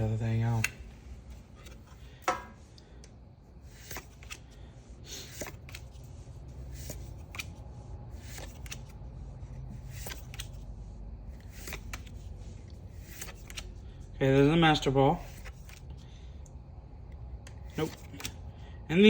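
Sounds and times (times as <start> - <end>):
low steady hum: 0.0 - 19.0
cards rustling and clicking: 0.3 - 14.1, 15.2 - 16.2, 17.4 - 18.6.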